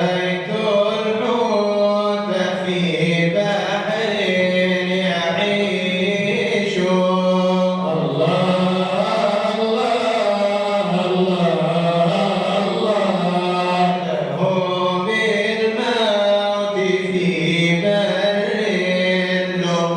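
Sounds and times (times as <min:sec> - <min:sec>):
man chanting: 0:00.0 - 0:19.9.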